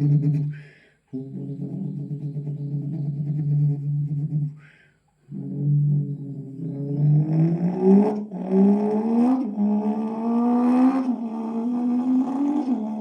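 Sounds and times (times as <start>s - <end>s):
person imitating car engine: 0.0s - 4.7s, 5.3s - 13.0s.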